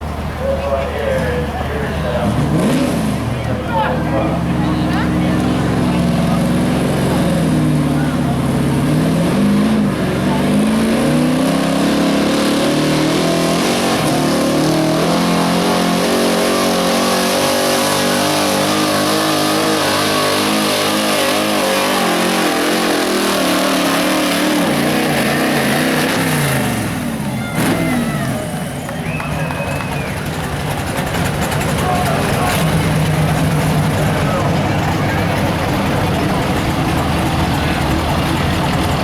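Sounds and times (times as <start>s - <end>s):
truck engine revving under load: 0.0s - 39.0s.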